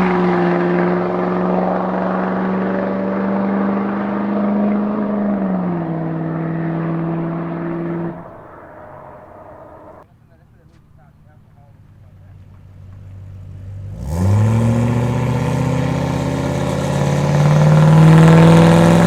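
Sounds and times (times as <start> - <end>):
diesel truck engine running: 0.0 - 10.0, 11.0 - 19.0.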